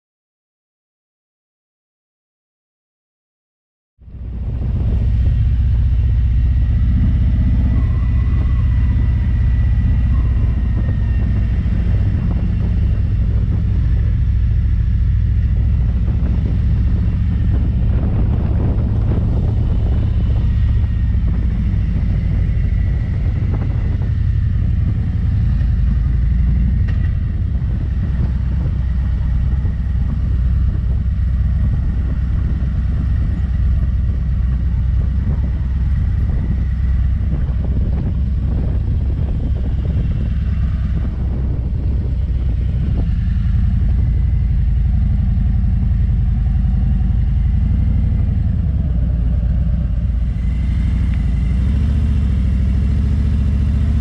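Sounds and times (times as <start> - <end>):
motorcycle engine rumbling: 4.0 - 54.0
road and wind noise: 4.0 - 54.0.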